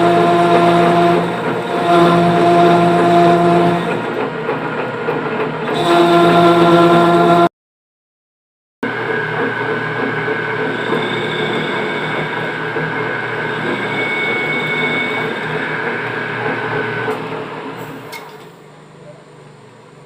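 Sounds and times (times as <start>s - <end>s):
machine whining: 0.0s - 7.5s, 8.8s - 18.2s.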